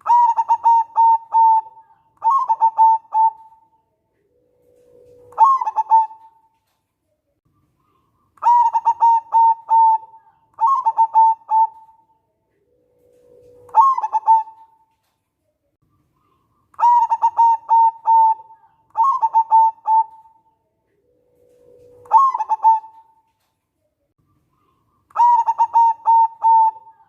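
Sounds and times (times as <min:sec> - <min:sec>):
dove cooing: 0:00.0 - 0:06.5, 0:07.9 - 0:14.8, 0:16.3 - 0:23.3, 0:24.6 - 0:27.0.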